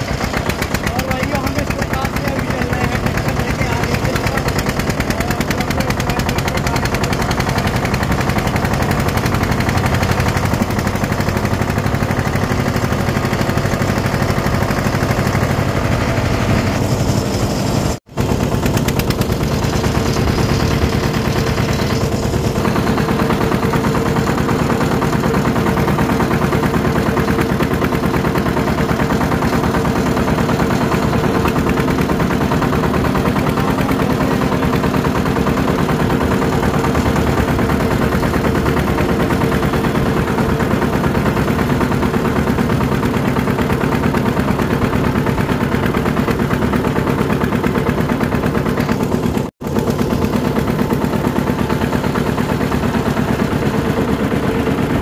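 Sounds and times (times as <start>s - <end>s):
tractor diesel engine chugging: 0.0s - 55.0s.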